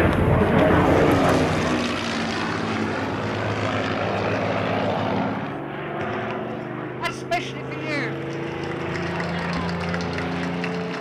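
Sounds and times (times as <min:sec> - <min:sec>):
propeller plane flying overhead: 0:00.0 - 0:11.0.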